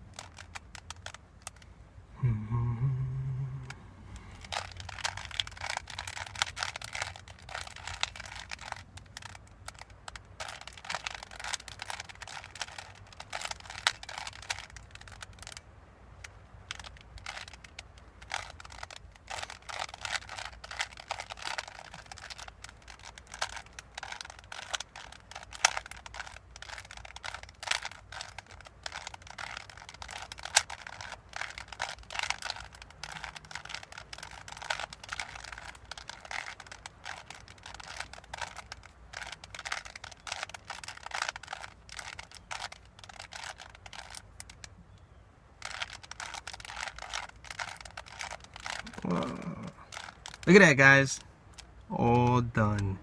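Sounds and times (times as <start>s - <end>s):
puzzle cube layers clicking: 0.0s - 1.6s, 4.4s - 15.6s, 16.7s - 44.7s, 45.6s - 53.0s.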